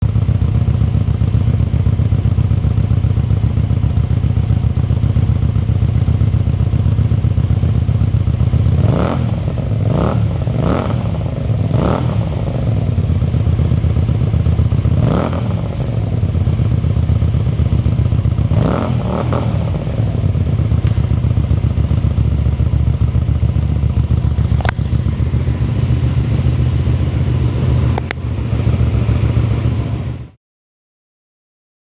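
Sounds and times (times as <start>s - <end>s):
motorcycle engine idling and revving: 0.0s - 30.4s.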